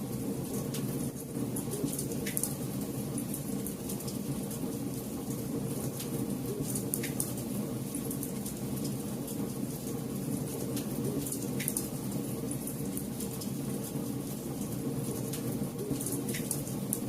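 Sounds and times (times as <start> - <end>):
campfire flames rushing: 0.0 - 17.0.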